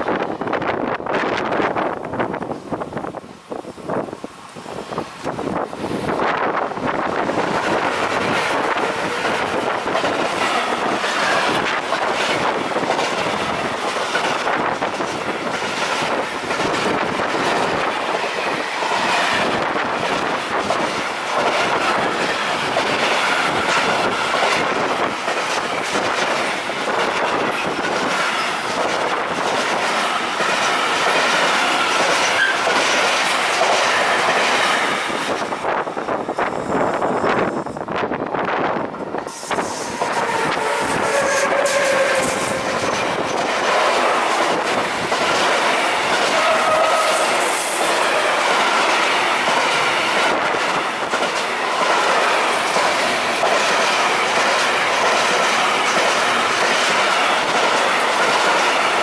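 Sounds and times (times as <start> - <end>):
freight train rumbling and clacking: 0.0 - 59.0.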